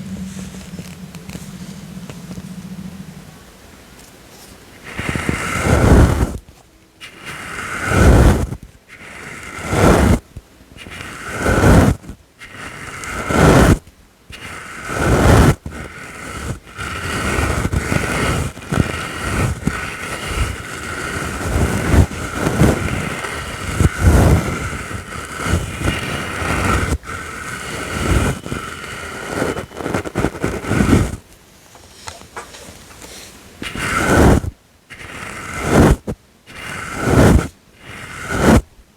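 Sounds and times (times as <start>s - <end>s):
brush sweeping over microphone: 0.0s - 3.4s, 4.3s - 31.2s, 33.0s - 38.6s.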